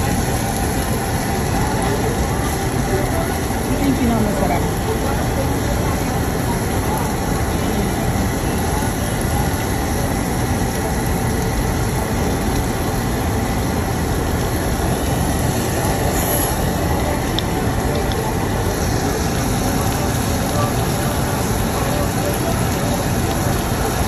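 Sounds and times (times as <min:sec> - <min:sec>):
restaurant background roar: 0:00.0 - 0:24.0.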